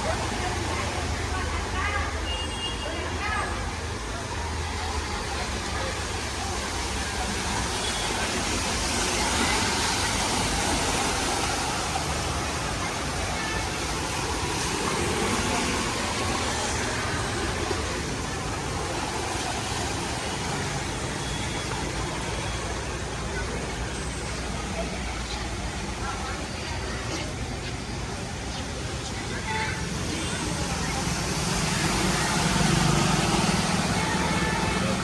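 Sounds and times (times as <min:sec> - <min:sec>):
heavy rain pouring: 0:00.0 - 0:02.2, 0:02.9 - 0:35.0
traffic passing through floodwater: 0:00.0 - 0:35.0.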